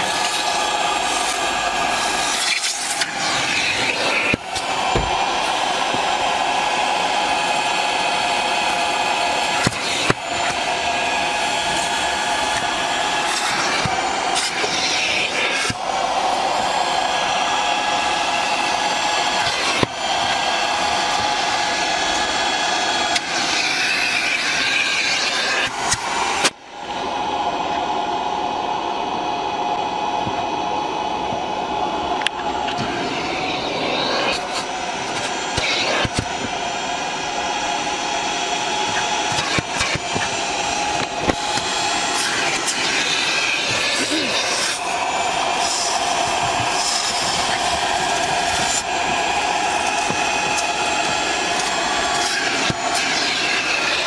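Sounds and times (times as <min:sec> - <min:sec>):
vacuum motor whining: 0:00.0 - 0:54.0.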